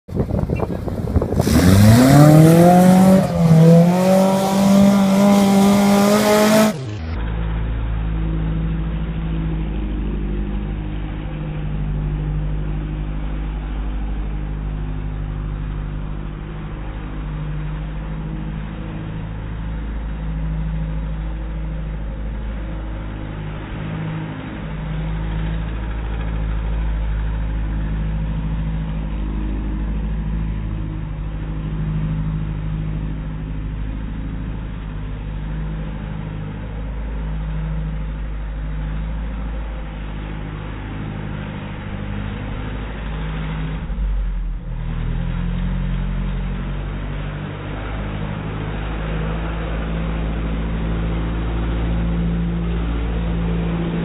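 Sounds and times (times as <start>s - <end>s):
deep rumble of driving on sand: 0.0s - 54.0s
jeep engine revving: 0.2s - 54.0s.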